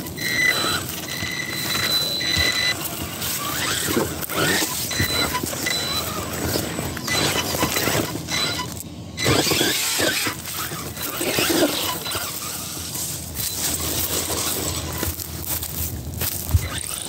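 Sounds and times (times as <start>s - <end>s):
toy car motor revving: 0.0s - 17.0s.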